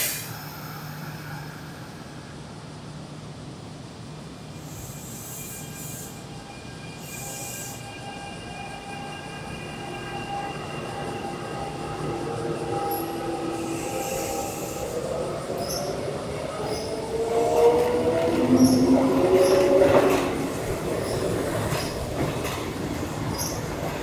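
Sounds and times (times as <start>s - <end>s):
electric train passing: 0.0s - 24.0s
train wheels squealing: 4.6s - 24.0s.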